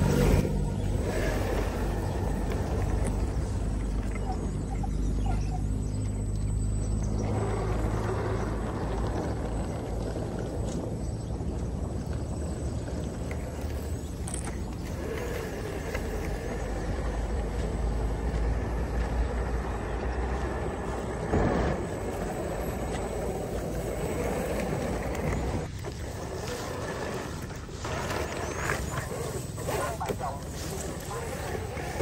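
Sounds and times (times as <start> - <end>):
electric motor whining: 0.0 - 32.0.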